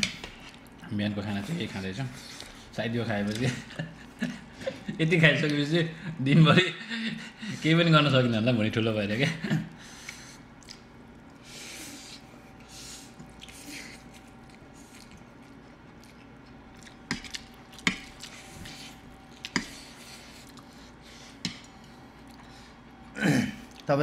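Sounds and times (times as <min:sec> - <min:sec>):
people slurping and chewing noodles: 0:00.0 - 0:05.6, 0:09.2 - 0:24.0.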